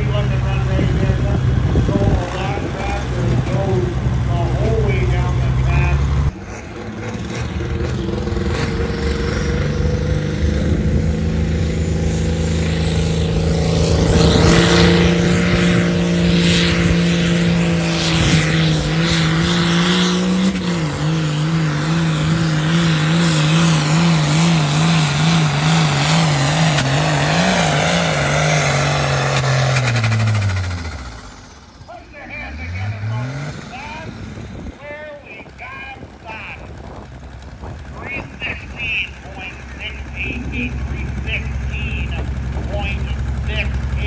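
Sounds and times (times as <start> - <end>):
tractor diesel engine labouring: 0.0 - 44.0.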